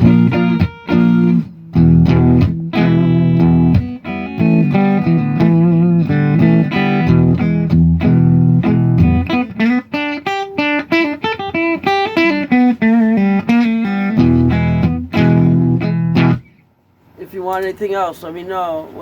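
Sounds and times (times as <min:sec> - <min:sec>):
electric guitar chords: 0:00.0 - 0:16.7
electric guitar melody with bends: 0:00.0 - 0:16.7.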